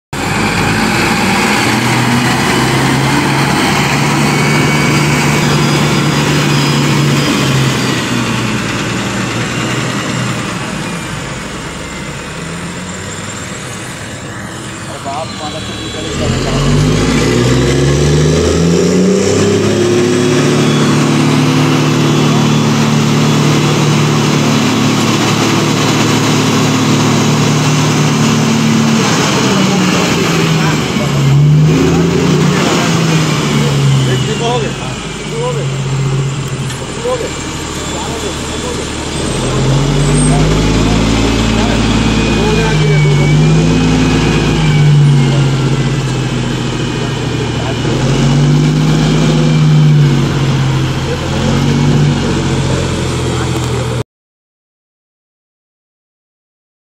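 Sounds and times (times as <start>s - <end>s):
haul truck diesel engine running: 0.1s - 54.0s.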